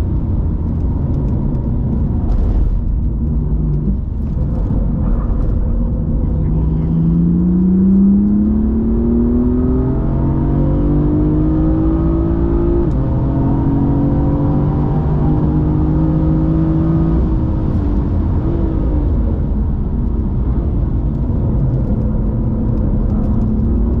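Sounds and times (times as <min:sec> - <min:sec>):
car engine accelerating: 0:00.0 - 0:24.0
road noise: 0:00.0 - 0:24.0.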